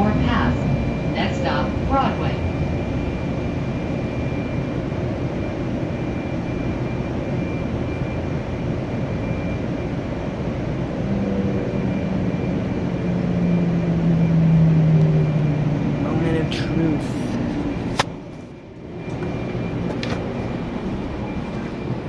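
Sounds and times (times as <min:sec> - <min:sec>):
low hum: 0:00.0 - 0:22.0
train rumble with high whine: 0:00.0 - 0:22.0.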